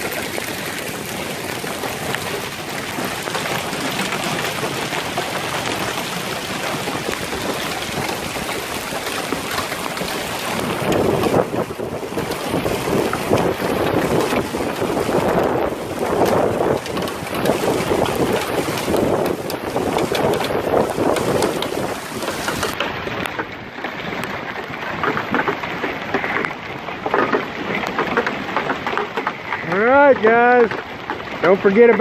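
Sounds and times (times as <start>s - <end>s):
hail and rain clicking: 0.0s - 32.0s
wind gusting across microphone: 0.0s - 32.0s.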